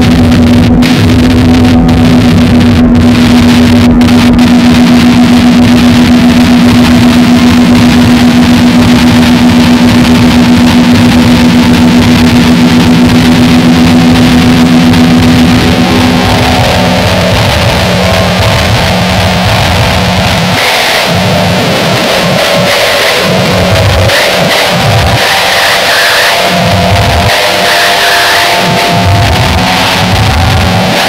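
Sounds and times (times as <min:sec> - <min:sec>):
loud distorted synth noise: 0:00.0 - 0:31.0
steady low hum: 0:00.0 - 0:31.0.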